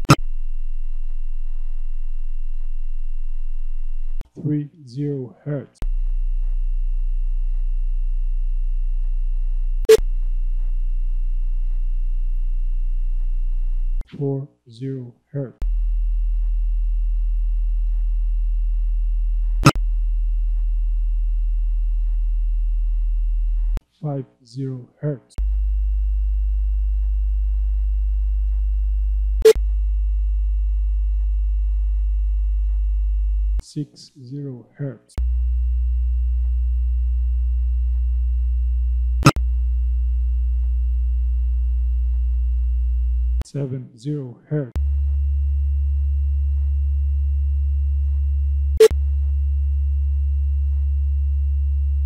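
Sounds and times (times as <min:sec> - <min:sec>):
low sine wave test tone: 0:00.0 - 0:04.5, 0:05.8 - 0:14.1, 0:15.6 - 0:23.8, 0:25.3 - 0:33.7, 0:35.1 - 0:43.5, 0:44.7 - 0:52.0.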